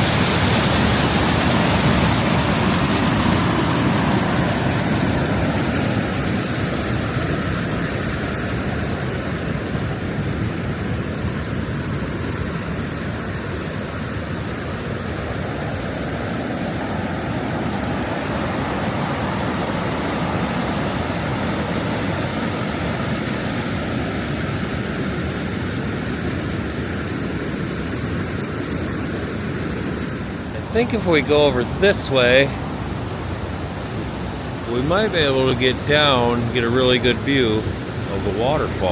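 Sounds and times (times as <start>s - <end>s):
river rushing over waterfalls: 0.0s - 38.9s.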